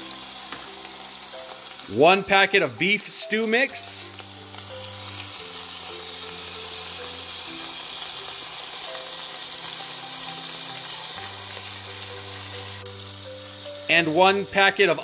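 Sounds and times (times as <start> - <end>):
beef roast sizzling: 0.0 - 15.0
soft background music chords: 0.0 - 15.0.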